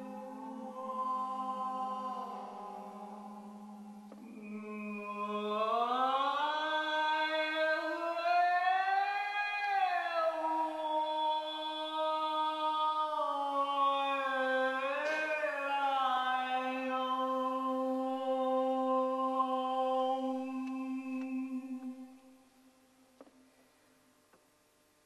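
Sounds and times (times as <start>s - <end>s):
person singing wordless notes: 0.0s - 22.7s.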